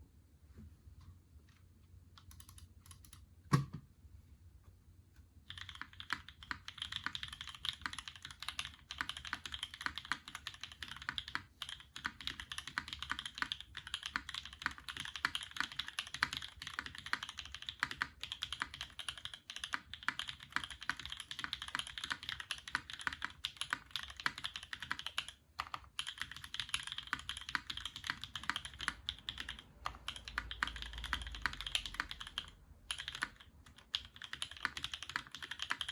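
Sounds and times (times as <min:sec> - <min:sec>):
mechanical keyboard typing: 0:02.2 - 0:03.2, 0:05.5 - 0:35.9.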